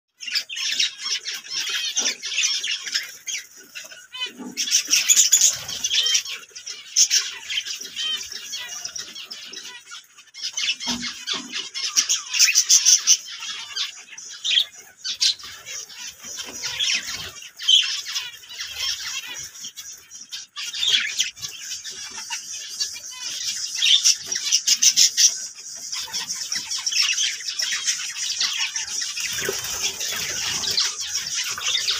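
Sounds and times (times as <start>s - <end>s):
finches chattering: 0.1s - 31.9s.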